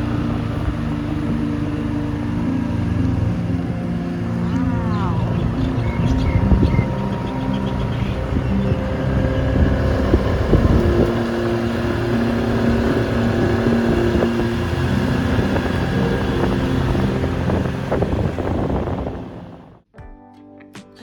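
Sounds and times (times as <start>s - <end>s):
vehicle engine running: 0.0s - 19.8s
wind rumbling on microphone: 0.0s - 19.8s.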